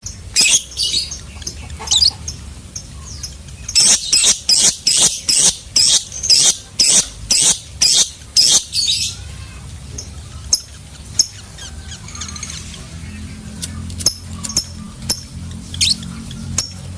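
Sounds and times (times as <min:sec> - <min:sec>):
lovebird chirping: 0:00.0 - 0:09.2, 0:09.9 - 0:16.9.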